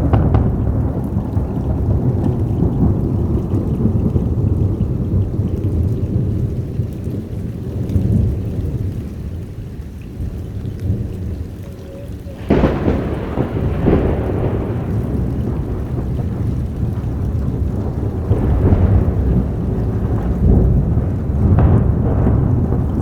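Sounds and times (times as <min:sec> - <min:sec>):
heavy rain: 0:00.0 - 0:23.0
low thunder rumbling: 0:00.0 - 0:23.0
sharp crackling thunderclap: 0:00.0 - 0:23.0.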